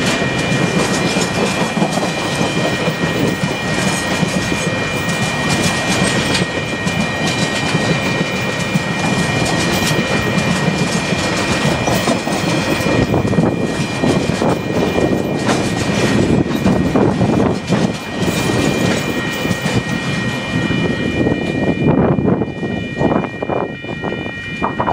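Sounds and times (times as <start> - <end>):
train wheels clattering over rails: 0.0 - 20.6
crossing warning bell ringing: 0.0 - 24.9.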